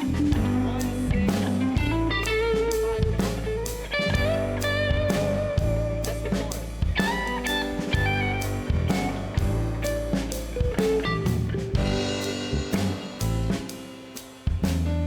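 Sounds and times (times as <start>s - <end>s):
bass guitar: 0.0s - 15.0s
drum kit steady beat: 0.0s - 15.0s
electric guitar lead: 0.0s - 15.0s.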